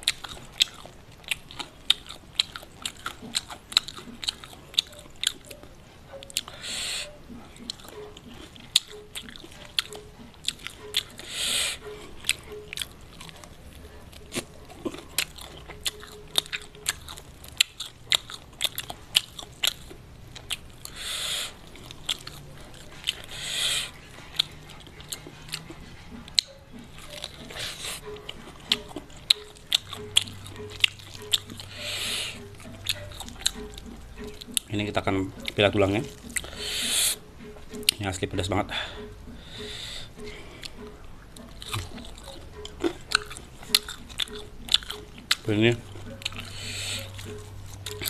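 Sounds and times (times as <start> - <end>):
crunching fried batter: 0.0 - 5.5, 7.4 - 37.0, 41.4 - 48.0
wet chewing: 0.0 - 48.0.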